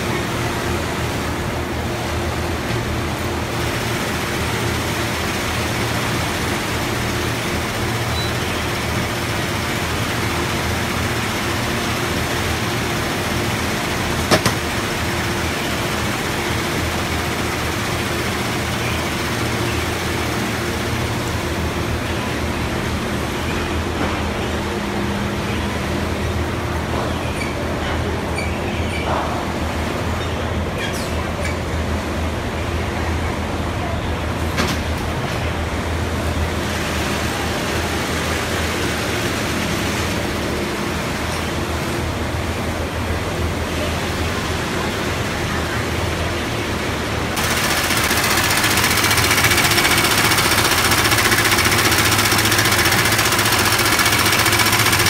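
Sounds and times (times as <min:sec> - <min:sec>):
industrial machinery running: 0:00.0 - 0:28.3, 0:29.0 - 0:55.0.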